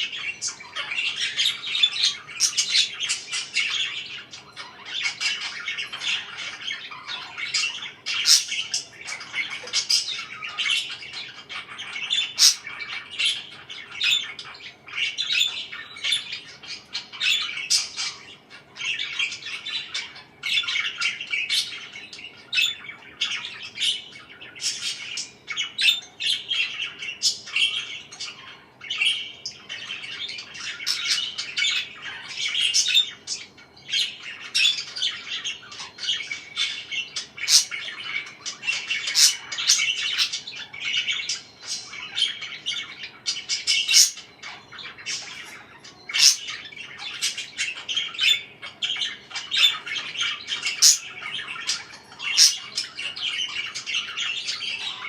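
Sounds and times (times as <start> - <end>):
parakeets chirping and squawking: 0.0 - 55.0.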